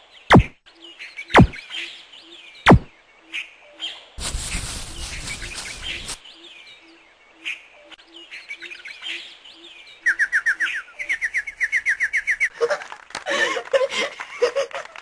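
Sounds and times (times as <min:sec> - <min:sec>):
birds chirping and twittering: 0:00.0 - 0:12.8.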